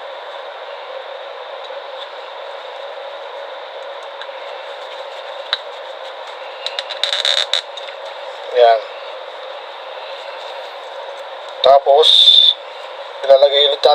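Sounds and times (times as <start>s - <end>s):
steady background hiss: 0.0s - 13.9s.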